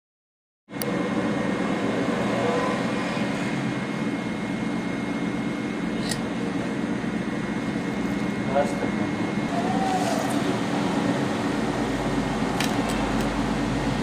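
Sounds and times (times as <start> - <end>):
mechanical hum with high whine: 0.7 - 14.0.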